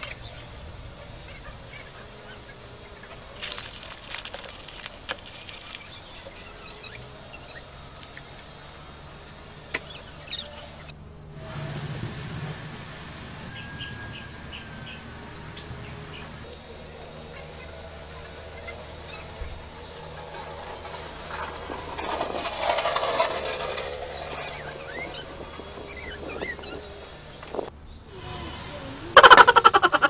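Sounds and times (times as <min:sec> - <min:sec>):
insect drone: 0:00.0 - 0:30.0.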